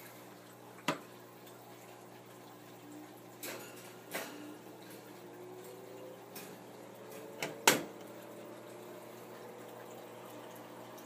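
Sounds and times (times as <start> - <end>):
computer fan hum: 0.0 - 11.0.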